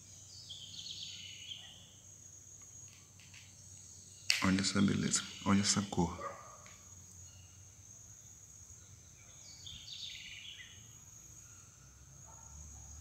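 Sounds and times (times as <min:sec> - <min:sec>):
bird chirping: 0:00.0 - 0:02.0, 0:02.8 - 0:13.0
insect trill: 0:00.0 - 0:13.0.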